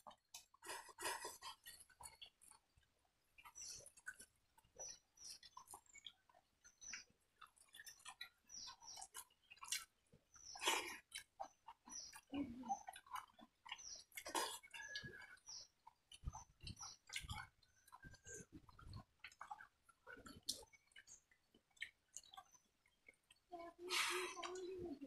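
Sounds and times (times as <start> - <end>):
people chewing and lip smacking: 0.0 - 25.0.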